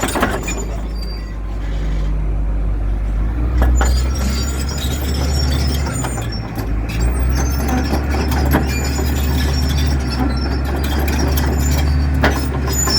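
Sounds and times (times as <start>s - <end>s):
bulldozer diesel engine droning: 0.0s - 12.9s.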